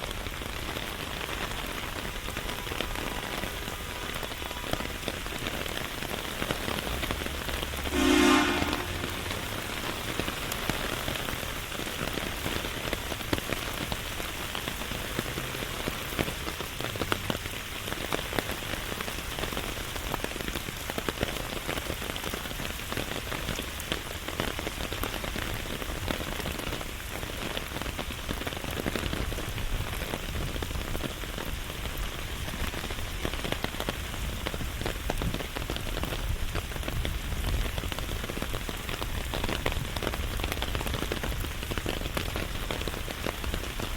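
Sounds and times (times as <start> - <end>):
raindrops ticking close by: 0.0 - 43.9
steady rain hiss: 0.0 - 43.9.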